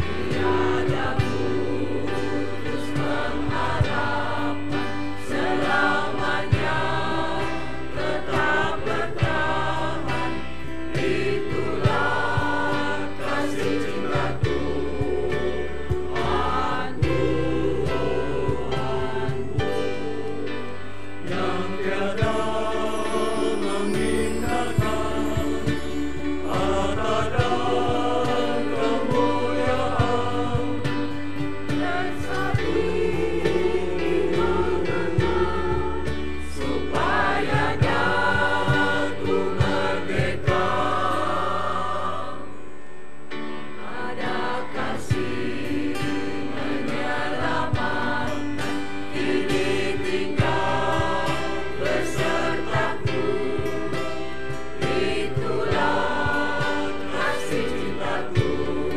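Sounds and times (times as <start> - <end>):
church choir singing a hymn: 0.0 - 58.9.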